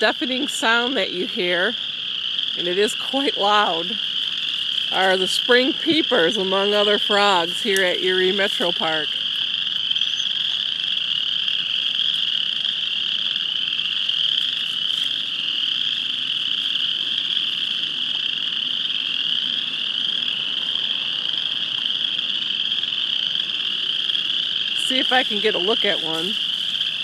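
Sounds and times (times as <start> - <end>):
chorus of frogs peeping: 0.0 - 27.0.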